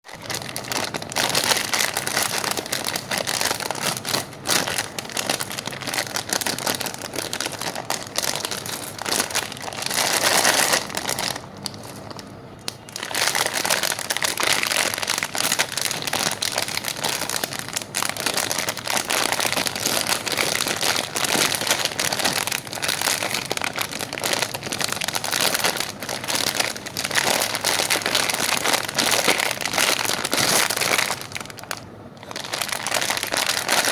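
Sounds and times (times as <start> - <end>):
plastic packaging crinkling: 0.1 - 33.9.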